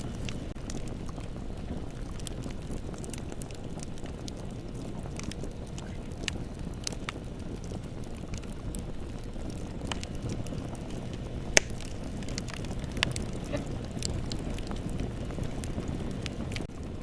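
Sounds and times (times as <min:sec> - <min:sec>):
bonfire rumbling: 0:00.0 - 0:17.0
fire crackles and pops: 0:00.0 - 0:17.0.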